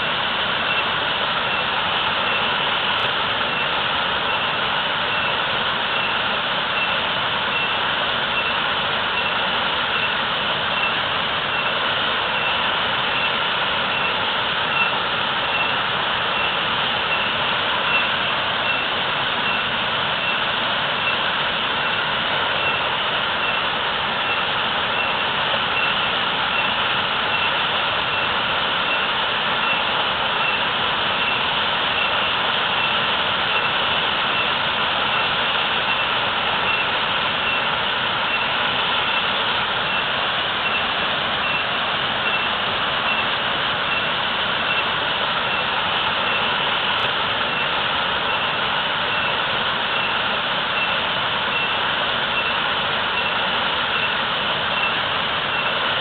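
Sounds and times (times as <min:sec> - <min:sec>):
waterfall pouring heavily: 0:00.0 - 0:56.0.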